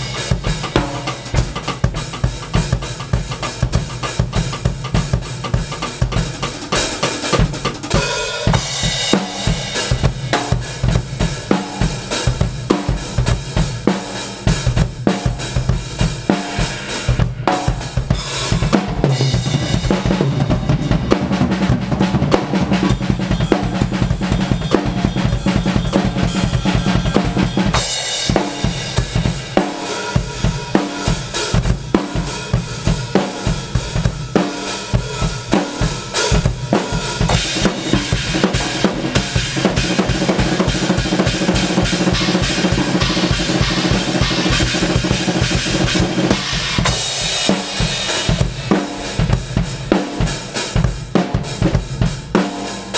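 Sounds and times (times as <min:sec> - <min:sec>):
fast loud drumming: 0:00.0 - 0:52.9.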